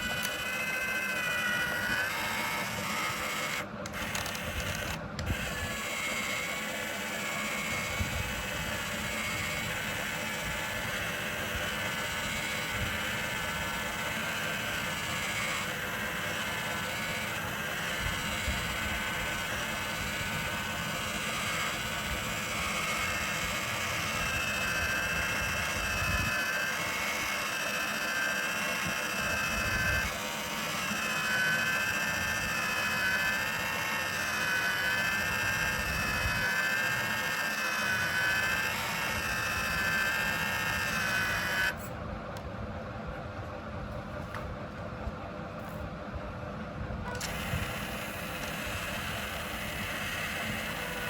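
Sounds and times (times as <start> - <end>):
rc truck motor whining: 0.0 - 41.9, 47.0 - 51.0.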